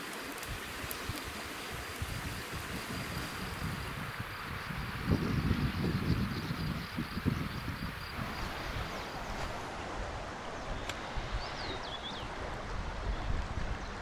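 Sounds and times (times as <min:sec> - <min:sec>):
river water flowing: 0:00.0 - 0:05.2, 0:07.6 - 0:14.0
wind rumbling on microphone: 0:00.0 - 0:14.0.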